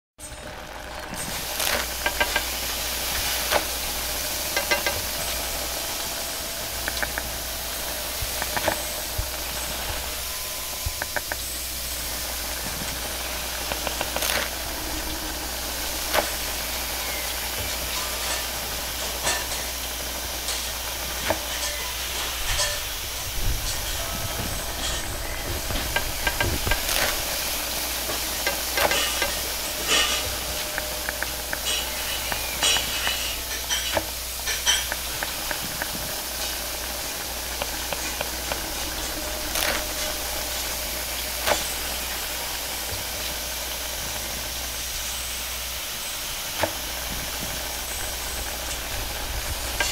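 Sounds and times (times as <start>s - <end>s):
food sizzling: 0.2s - 49.9s
gas flame hissing: 0.2s - 49.9s.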